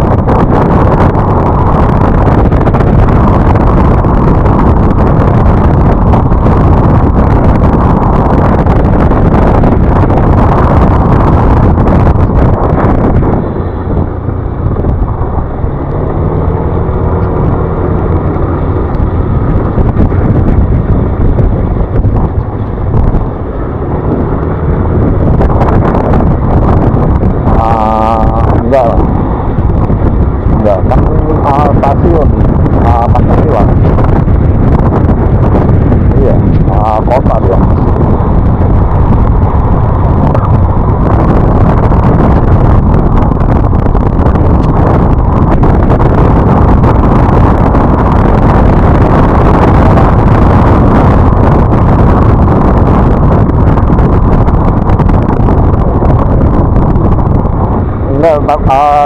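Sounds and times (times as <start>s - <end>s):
scooter engine and road noise: 0.0s - 59.0s
wind on microphone: 0.0s - 59.0s.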